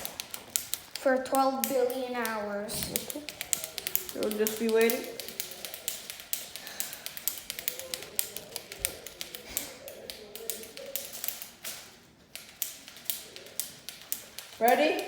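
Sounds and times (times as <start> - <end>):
toy winding clicks: 0.0 - 15.0.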